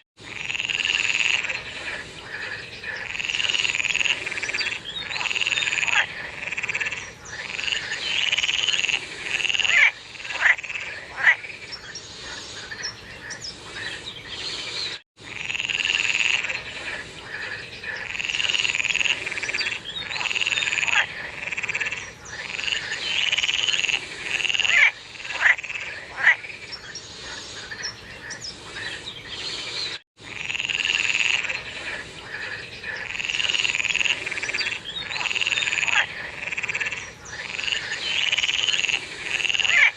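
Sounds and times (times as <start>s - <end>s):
frogs croaking: 0.2s - 14.6s, 15.2s - 29.5s, 30.2s - 39.9s.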